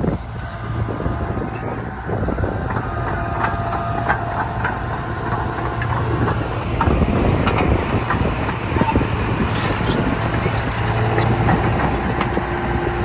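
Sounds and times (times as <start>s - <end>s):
bulldozer diesel engine running: 0.0s - 13.0s
steel tracks clanking and squeaking: 0.4s - 12.4s.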